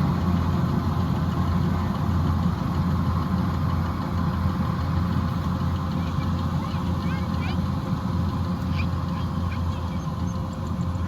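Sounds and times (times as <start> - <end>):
combine harvester diesel engine: 0.0 - 11.0.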